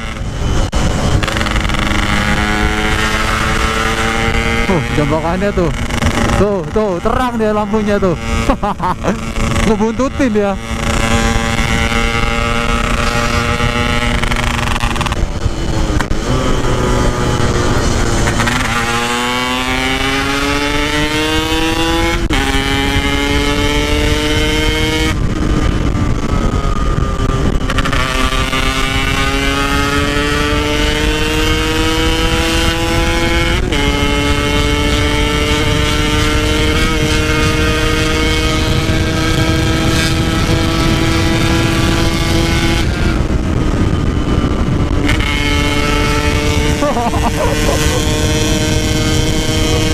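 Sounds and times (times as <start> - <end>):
two-stroke motorcycle engine accelerating: 0.0 - 49.9.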